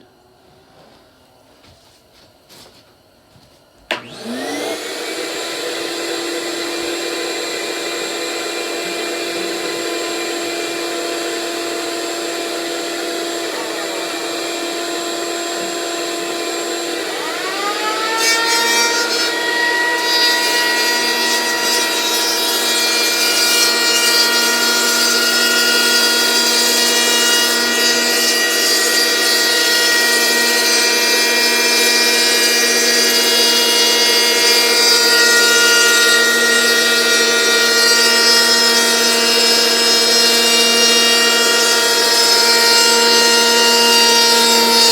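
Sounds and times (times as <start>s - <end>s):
electric power tool whining: 3.9s - 44.9s.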